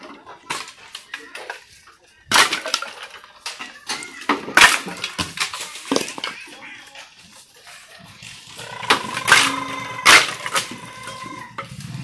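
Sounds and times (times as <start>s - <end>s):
firewood clattering onto pile: 0.0s - 6.6s, 8.8s - 12.0s.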